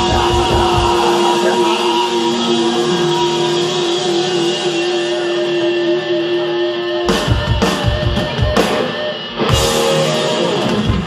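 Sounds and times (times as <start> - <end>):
heavy drum and cymbal hits: 0.0 - 5.4, 7.1 - 11.0
distorted guitar chord: 0.0 - 11.0.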